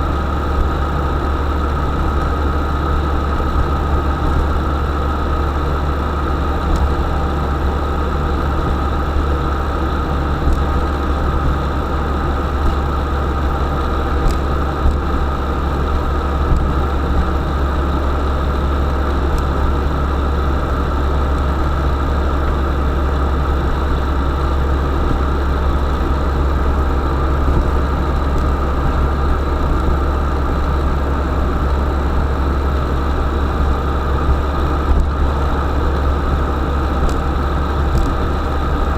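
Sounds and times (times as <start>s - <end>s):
van engine running: 0.0s - 38.9s.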